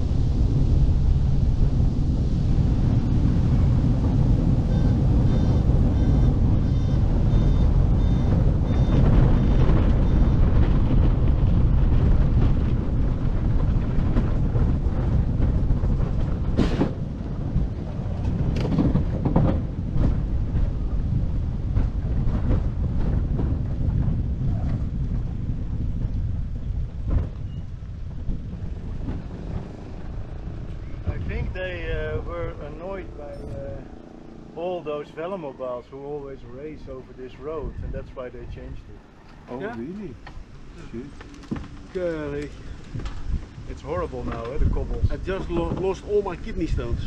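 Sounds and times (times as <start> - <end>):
tyres and wind rumble: 0.0 - 47.0.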